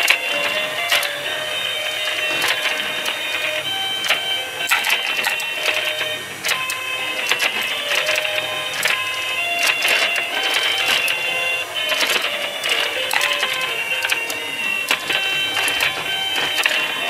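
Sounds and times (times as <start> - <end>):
plastic clicks and clacks: 0.0 - 9.0, 9.6 - 17.0
simple electronic tune: 0.0 - 17.0
toy mechanical whir: 0.0 - 17.0.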